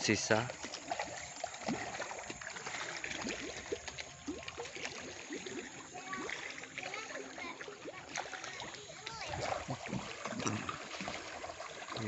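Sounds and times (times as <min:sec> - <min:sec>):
river water gurgling and lapping: 0:00.0 - 0:12.0
small bubbly plops: 0:00.4 - 0:12.0.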